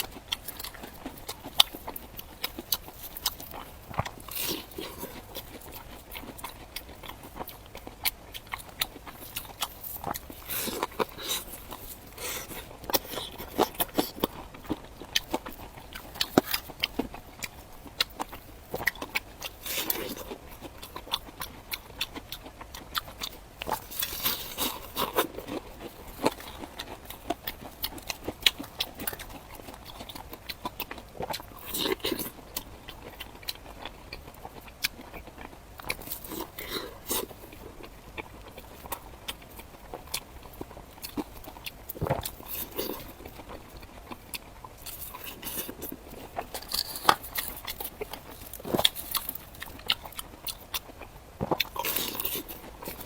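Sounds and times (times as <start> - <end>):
crunchy bread being chewed: 0.0 - 53.0.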